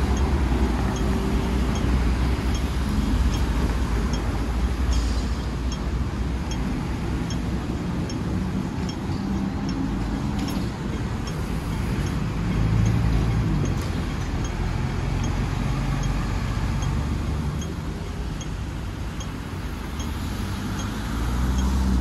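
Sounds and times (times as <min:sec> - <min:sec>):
electric tram rumbling on tracks: 0:00.0 - 0:22.0.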